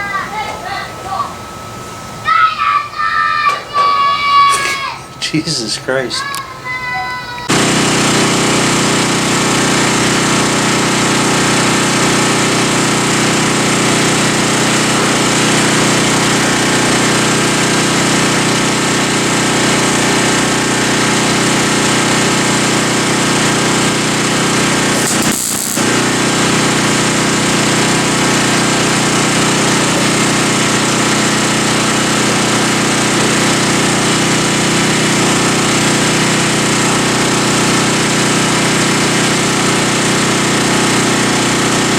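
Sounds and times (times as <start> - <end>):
power tool on sheet metal: 7.5 - 41.9.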